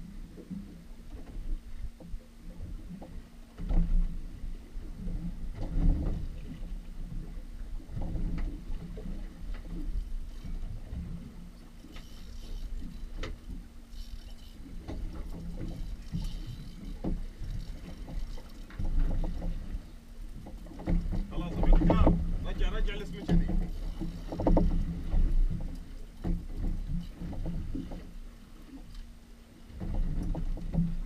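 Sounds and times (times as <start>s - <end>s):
water lapping against boat hull: 0.0s - 31.0s.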